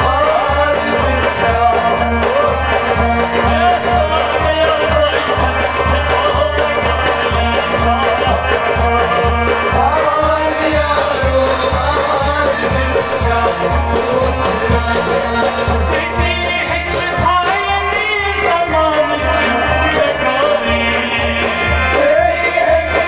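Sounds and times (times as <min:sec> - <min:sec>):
harmonium chords: 0:00.0 - 0:23.0
man singing: 0:00.0 - 0:23.0.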